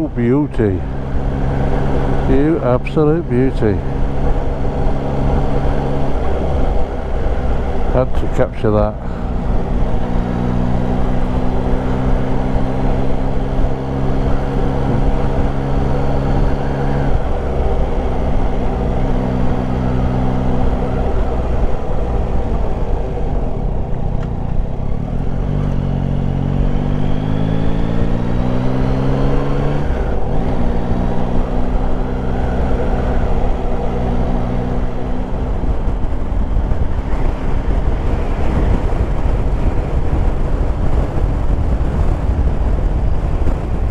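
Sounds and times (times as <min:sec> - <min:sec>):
motorcycle engine running: 0:00.0 - 0:43.9
wind rumble on microphone: 0:00.0 - 0:43.9.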